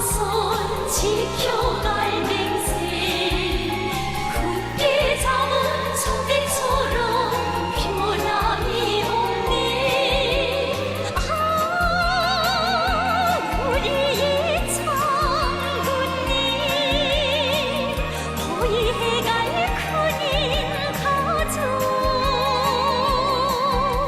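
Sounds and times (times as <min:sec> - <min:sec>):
bass line: 0:00.0 - 0:24.0
pop song with singer: 0:00.0 - 0:24.0.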